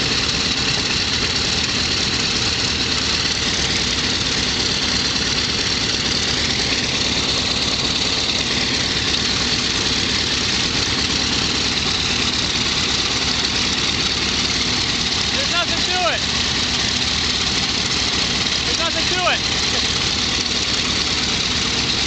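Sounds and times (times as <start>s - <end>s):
radial engine idling: 0.0s - 22.0s.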